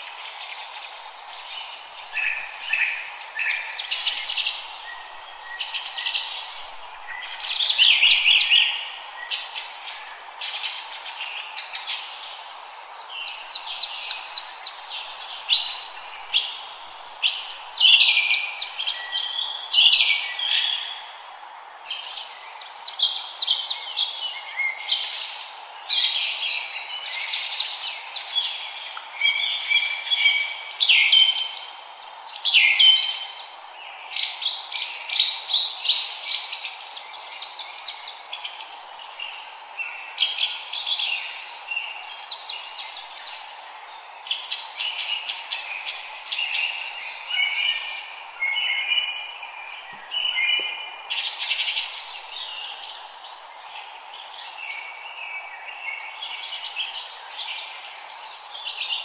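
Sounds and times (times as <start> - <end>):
chorus of birds chirping: 0.0 - 59.0
steady background hiss: 0.0 - 59.0.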